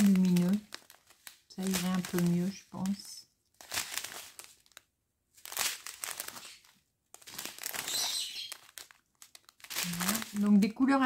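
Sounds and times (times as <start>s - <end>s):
plastic zip-lock bags crinkling: 0.0s - 11.0s.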